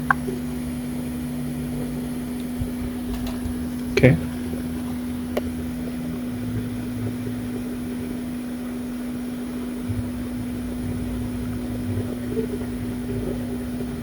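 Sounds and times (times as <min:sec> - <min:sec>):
small blower fan humming: 0:00.0 - 0:14.0.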